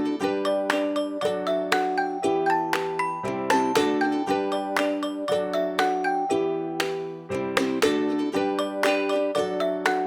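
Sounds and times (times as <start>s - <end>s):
bright plucked instrumental tune: 0.0s - 10.0s.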